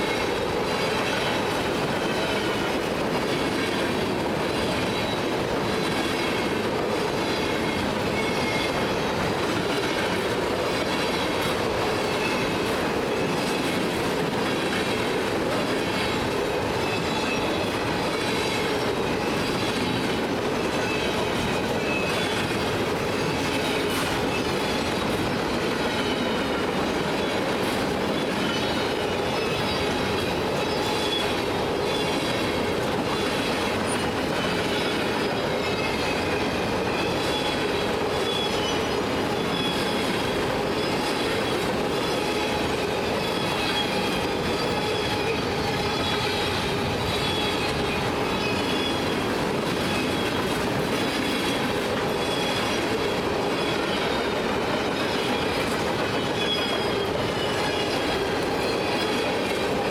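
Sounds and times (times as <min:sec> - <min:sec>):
high wheel squeal: 0:00.0 - 0:13.9, 0:14.5 - 0:59.9
train wheels rumbling on rails: 0:00.0 - 0:59.9.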